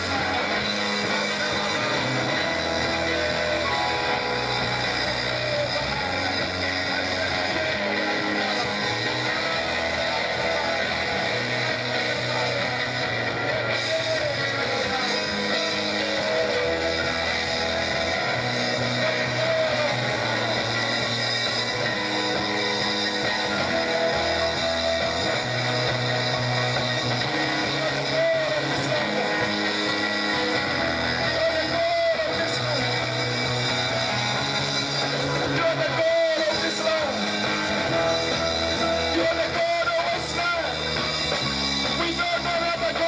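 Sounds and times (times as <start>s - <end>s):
sustained chords: 0.0s - 42.9s
bass line: 0.0s - 43.0s
guitar: 0.0s - 43.0s.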